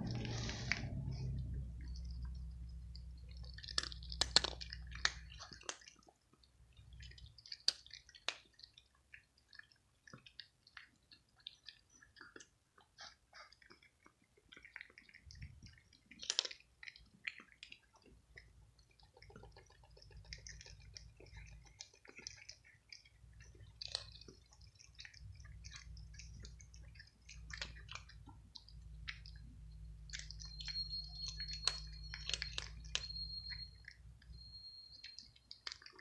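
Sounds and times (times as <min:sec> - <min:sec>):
cats crunching kibble: 0:00.0 - 0:36.0.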